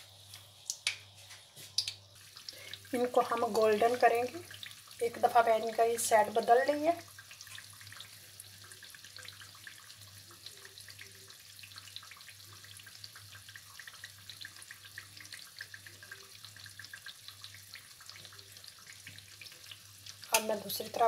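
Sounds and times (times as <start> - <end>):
oil sizzling with small crackles: 0.0 - 21.0.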